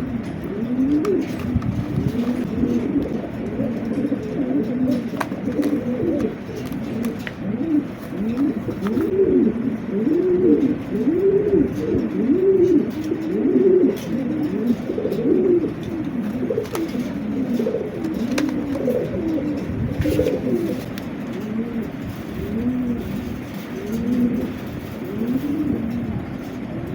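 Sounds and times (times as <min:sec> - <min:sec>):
pigeons cooing: 0:00.0 - 0:26.9.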